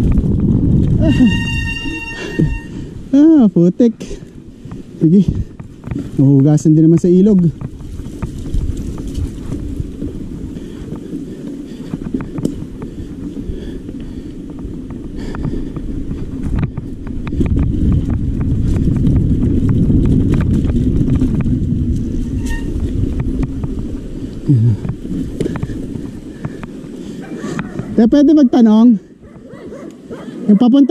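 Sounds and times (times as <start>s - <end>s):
bike rattling over bumps: 0.0s - 30.9s
wind rumble on microphone: 0.0s - 30.9s.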